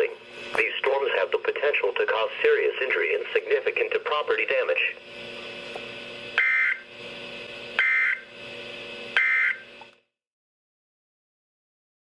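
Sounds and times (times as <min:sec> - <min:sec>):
steady radio hum: 0:00.0 - 0:09.8.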